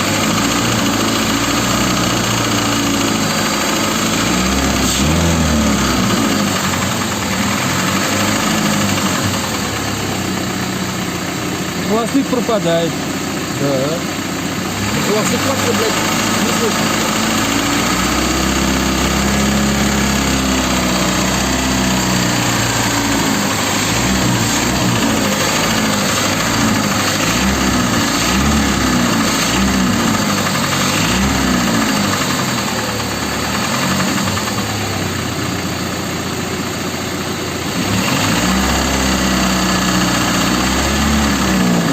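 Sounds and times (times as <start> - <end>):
car engine revving and running: 0.0 - 41.9.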